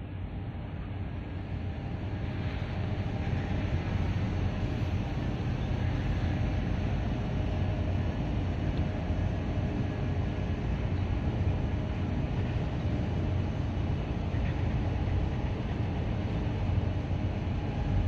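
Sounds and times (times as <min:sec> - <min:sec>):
low mechanical drone with hum: 0:00.0 - 0:18.0.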